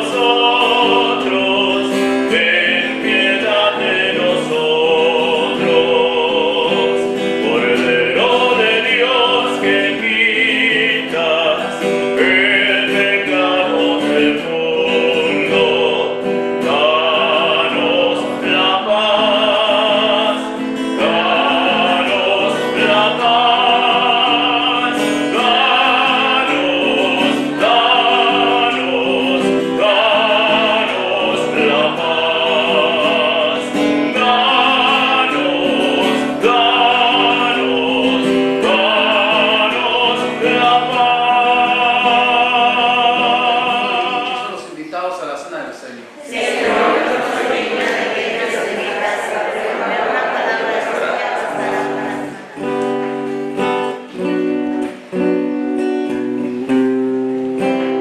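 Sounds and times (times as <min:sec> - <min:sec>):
congregation singing a hymn: 0:00.0 - 0:44.8, 0:46.1 - 0:55.1.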